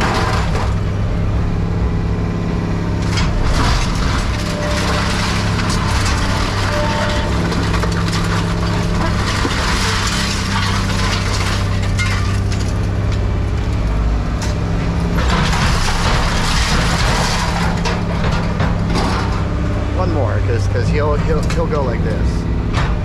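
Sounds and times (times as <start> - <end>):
scrap metal crunching and cracking: 0.0 - 1.8, 2.7 - 23.0
diesel engine running under load: 0.0 - 23.0.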